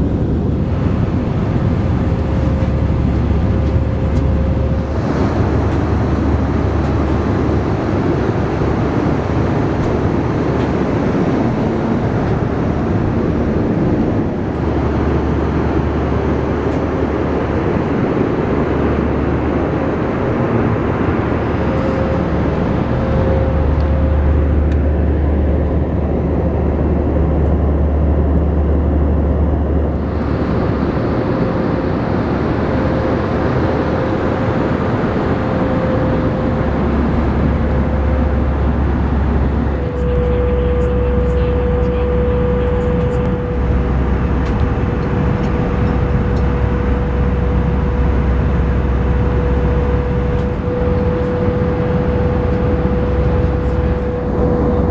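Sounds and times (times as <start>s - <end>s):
deep rumble: 0.0s - 54.9s
faint steady hum: 0.0s - 54.9s
jet engine and airflow rush: 0.0s - 54.9s.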